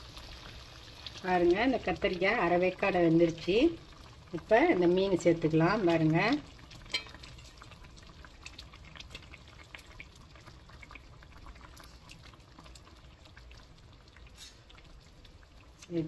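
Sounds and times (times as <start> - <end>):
curry bubbling and popping: 0.0 - 16.0.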